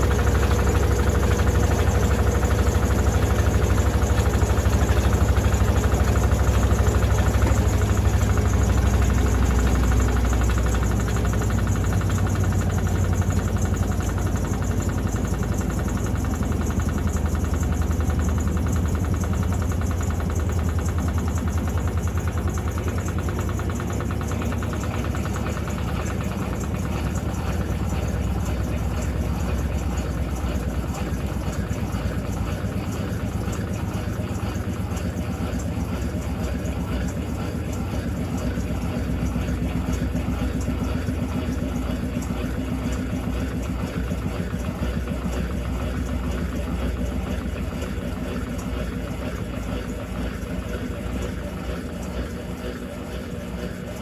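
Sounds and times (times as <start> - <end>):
fast rattle: 0.0 - 54.0
washing machine motor hum: 0.0 - 54.0.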